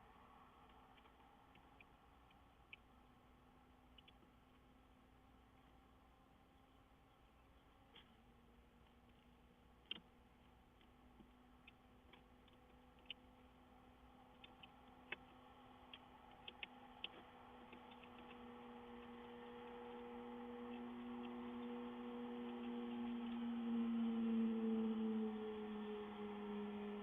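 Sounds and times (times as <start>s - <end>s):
low steady hum: 0.0s - 27.0s
faint ticks and clicks: 0.1s - 23.5s.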